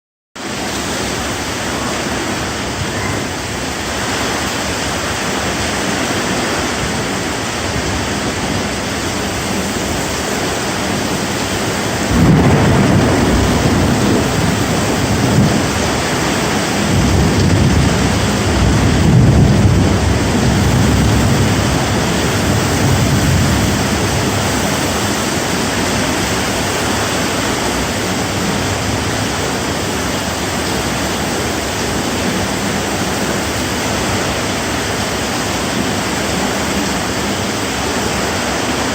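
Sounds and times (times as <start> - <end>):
heavy rain falling: 0.4 - 38.9
thunder rumbling: 0.6 - 38.9.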